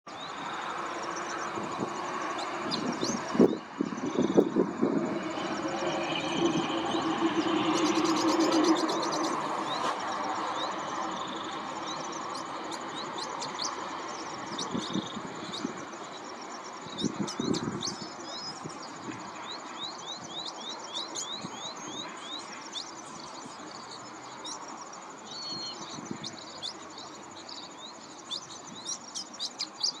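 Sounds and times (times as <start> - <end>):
small birds chirping: 0.1 - 30.0
steady outdoor hiss: 0.1 - 30.0.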